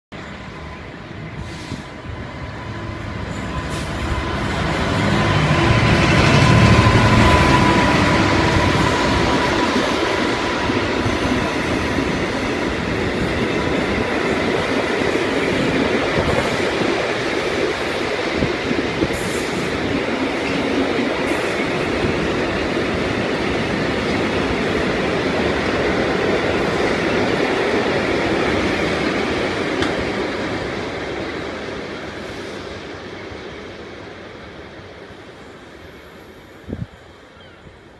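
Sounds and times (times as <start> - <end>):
wheels rumbling on rail: 0.2 - 37.9.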